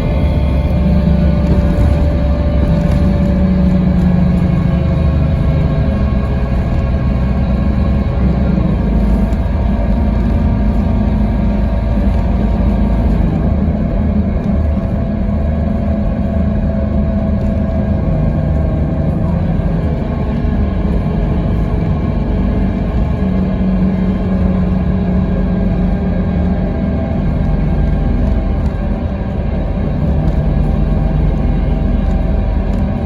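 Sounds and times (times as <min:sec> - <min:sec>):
diesel coach engine running: 0:00.0 - 0:33.0
road rumble: 0:00.0 - 0:33.0.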